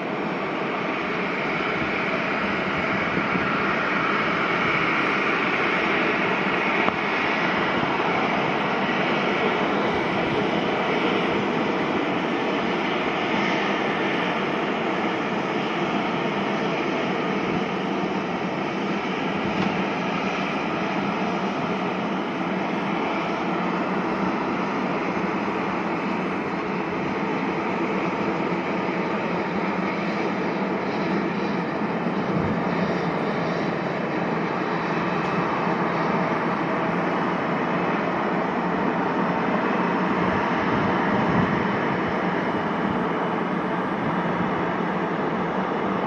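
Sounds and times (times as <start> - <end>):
jet airliner engines running: 0.0 - 46.0.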